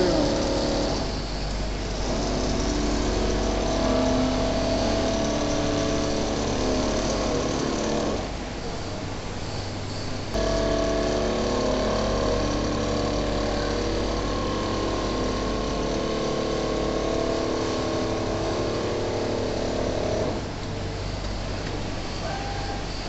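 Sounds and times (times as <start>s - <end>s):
quilting machine hum: 0.0s - 9.0s, 10.2s - 22.1s
steady machine whine: 0.0s - 23.0s.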